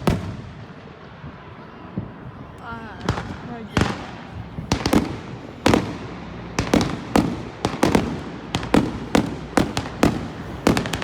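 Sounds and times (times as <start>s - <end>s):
fireworks banging with echo: 0.0s - 11.0s.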